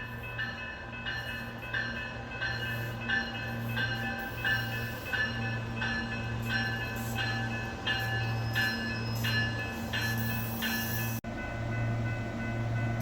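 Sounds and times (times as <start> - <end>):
electric train humming: 0.0 - 13.0
bell clanging: 0.4 - 13.0.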